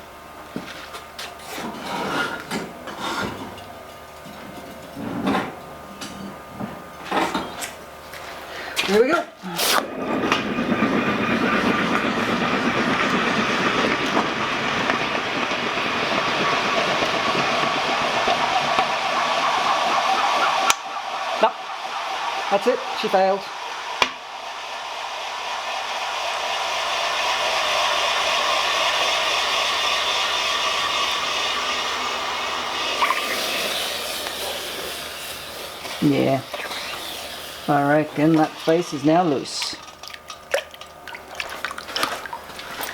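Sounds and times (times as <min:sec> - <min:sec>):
hot steel quenched in boiling water: 0:07.0 - 0:42.9.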